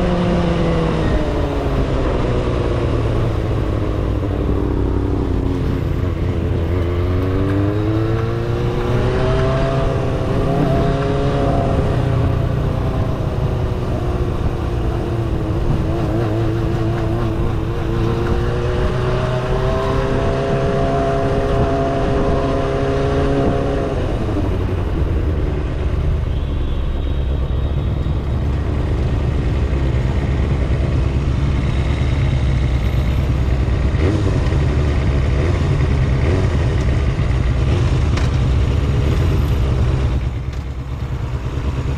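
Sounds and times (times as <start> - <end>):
motorcycle engine accelerating: 0.0 - 26.3, 27.7 - 41.9.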